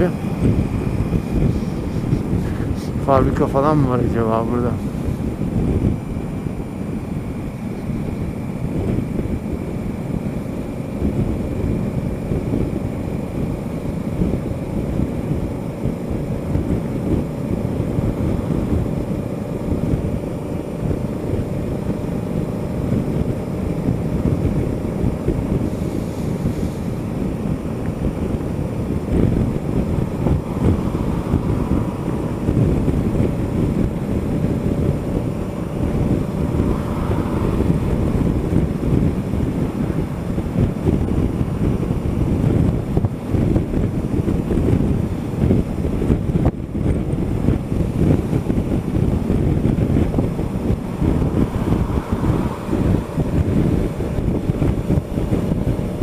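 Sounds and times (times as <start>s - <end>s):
motorcycle engine cruising: 0.0s - 56.0s
wind buffeting microphone: 0.0s - 56.0s.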